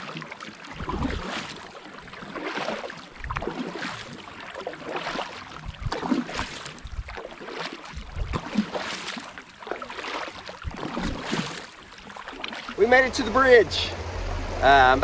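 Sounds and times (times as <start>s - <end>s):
kayak paddle splashing: 0.0s - 15.0s.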